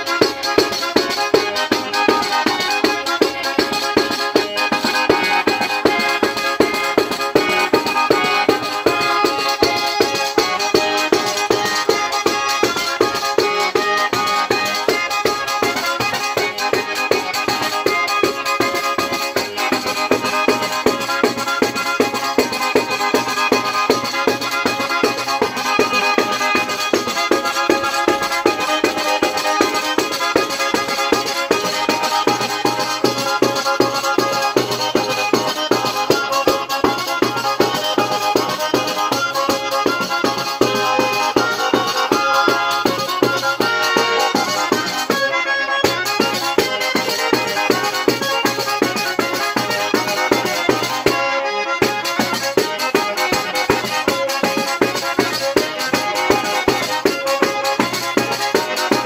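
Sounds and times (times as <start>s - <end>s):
button accordion playing folk dance: 0.0s - 59.0s.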